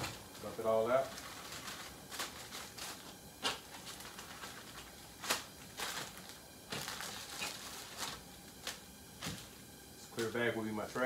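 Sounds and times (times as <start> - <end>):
wrappers rustling: 0.0 - 11.0.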